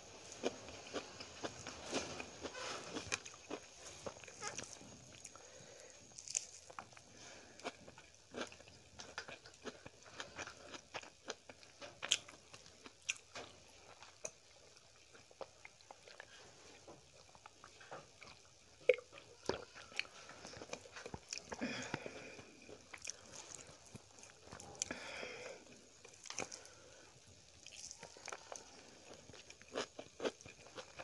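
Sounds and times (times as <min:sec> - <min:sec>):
person chewing food: 0:00.1 - 0:31.0.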